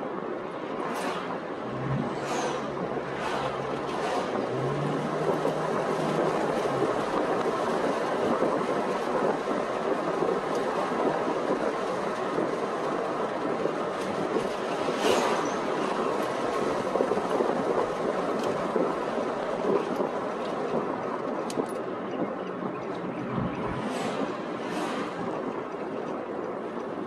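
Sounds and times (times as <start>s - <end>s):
road and tyre noise: 0.0s - 27.0s.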